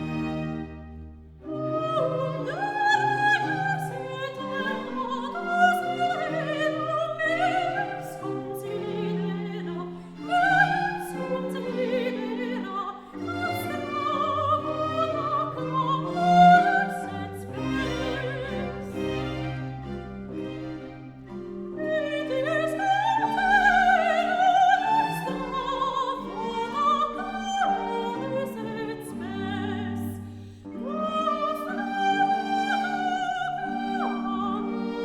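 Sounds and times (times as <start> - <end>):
orchestral strings: 0.0 - 35.0.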